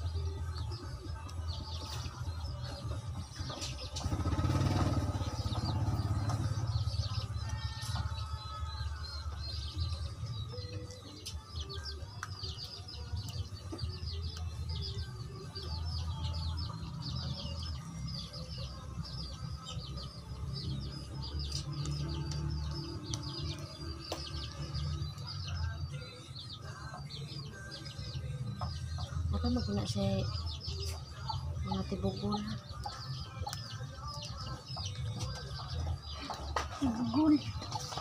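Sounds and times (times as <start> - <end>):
background music: 0.0 - 38.0.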